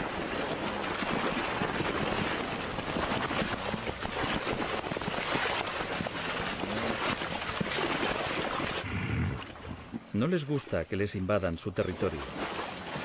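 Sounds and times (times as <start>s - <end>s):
hoof thuds on mud and water: 0.0s - 10.2s, 11.7s - 13.0s
water splashing: 0.0s - 13.0s.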